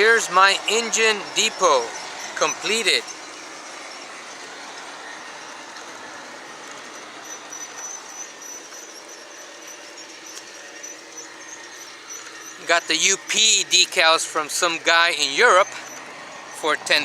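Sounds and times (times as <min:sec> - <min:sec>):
high motor whine: 0:00.0 - 0:17.0.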